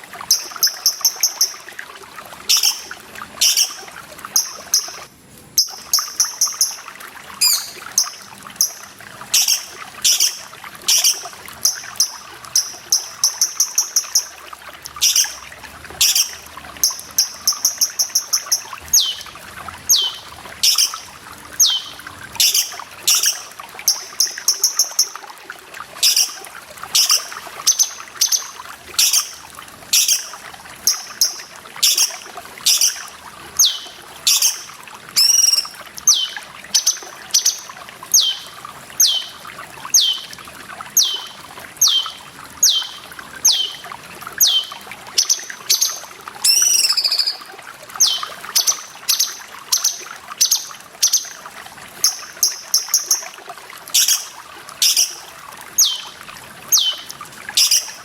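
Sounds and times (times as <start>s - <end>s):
bird calls and trills: 0.0s - 1.8s, 2.4s - 25.2s, 26.0s - 58.0s
trickling water: 0.0s - 58.0s.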